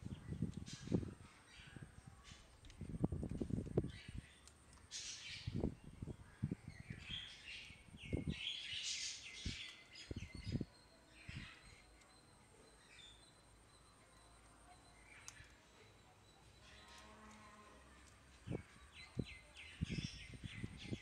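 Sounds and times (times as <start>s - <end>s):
bird-like chirps: 3.8s - 21.0s.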